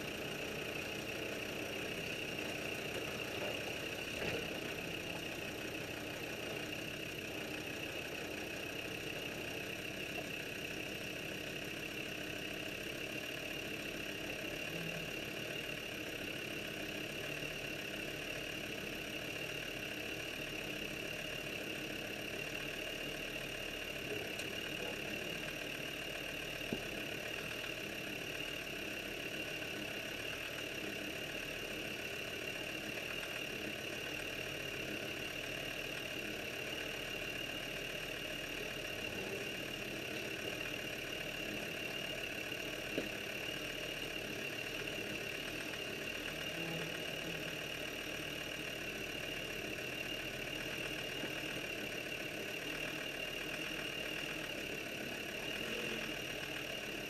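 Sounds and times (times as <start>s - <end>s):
engine running at low speed: 0.0s - 57.0s.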